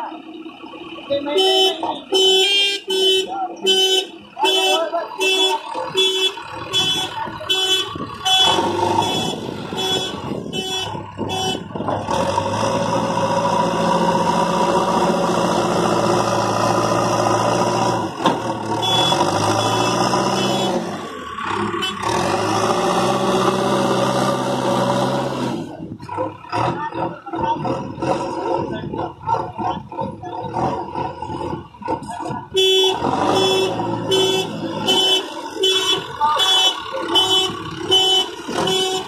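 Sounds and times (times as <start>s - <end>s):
diesel engine working hard: 0.0s - 39.0s.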